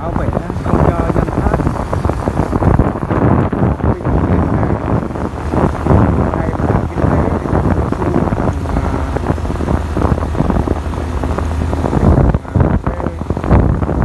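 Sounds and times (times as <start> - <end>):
engine low drone: 0.0 - 14.0
wind buffeting microphone: 0.0 - 14.0.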